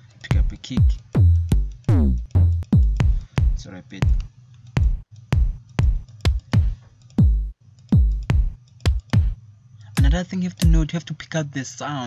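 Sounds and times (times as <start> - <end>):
electronic kick drum hits: 0.3 - 9.4, 10.0 - 10.8.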